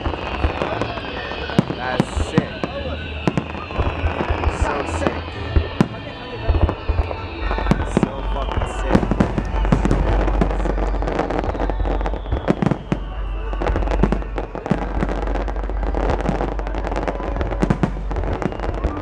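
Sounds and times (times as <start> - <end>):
fireworks bangs and crackles: 0.0 - 19.0
loud firework booms: 0.0 - 19.0.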